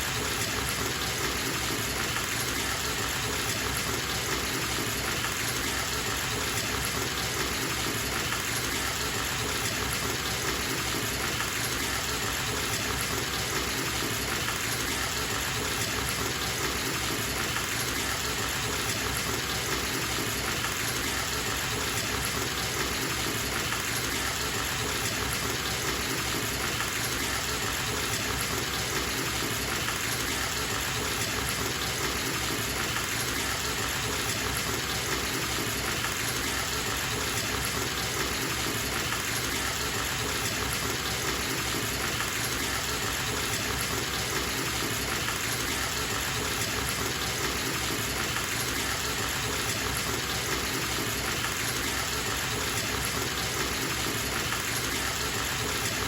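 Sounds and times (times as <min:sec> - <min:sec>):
bathtub faucet running: 0:00.0 - 0:56.0.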